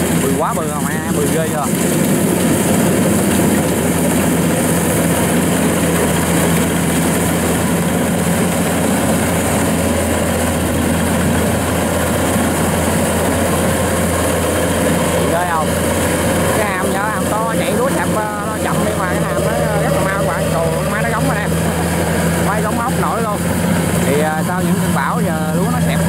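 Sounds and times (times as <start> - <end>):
combine harvester droning: 0.0 - 26.0.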